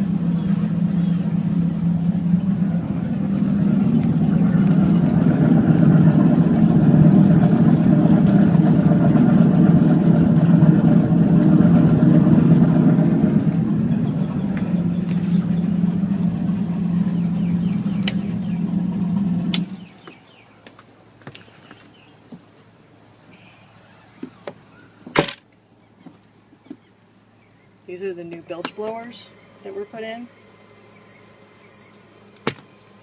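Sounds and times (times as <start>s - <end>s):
boat engines idling: 0.0s - 33.0s.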